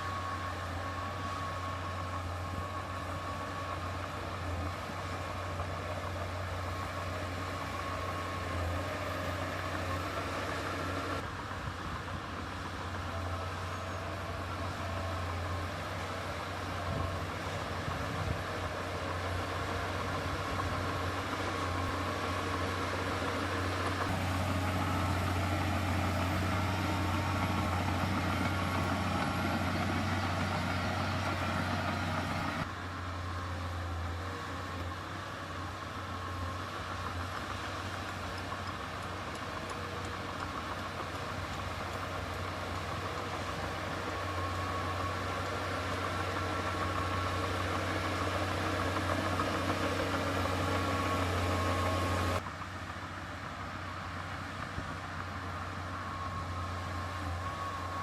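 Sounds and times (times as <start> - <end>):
heavy machinery diesel engine running: 0.0 - 58.0.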